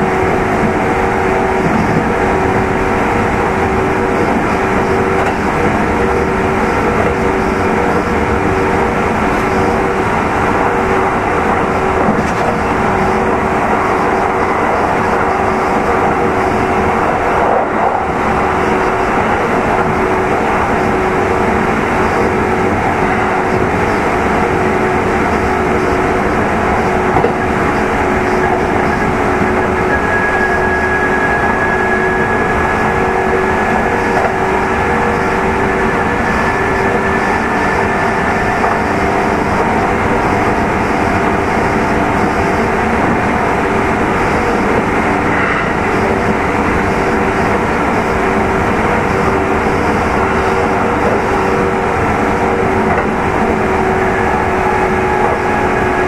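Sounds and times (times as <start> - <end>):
train wheels rumbling: 0.0 - 56.0.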